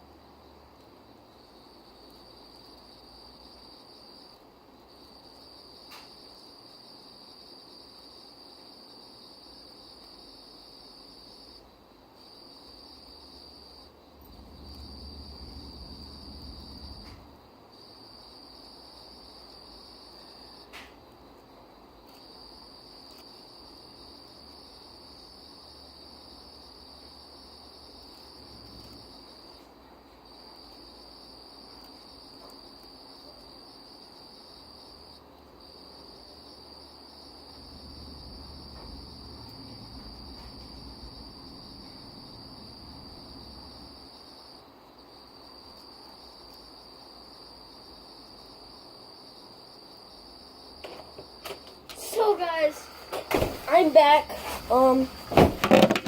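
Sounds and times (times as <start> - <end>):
insects trilling: 0.2 - 56.0.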